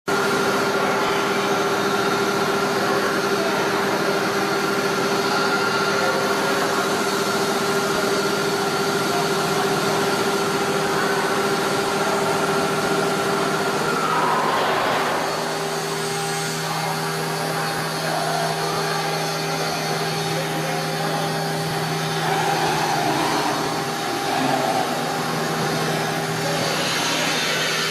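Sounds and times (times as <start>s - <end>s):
cnc router humming and whining: 0.1s - 27.9s.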